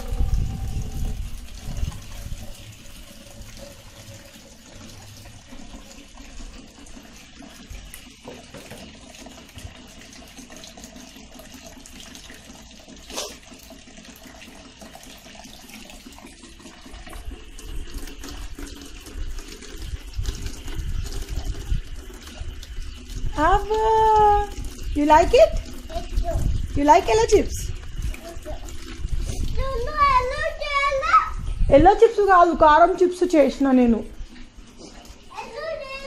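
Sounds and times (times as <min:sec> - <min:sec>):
tap water running into bucket: 0:00.0 - 0:36.0.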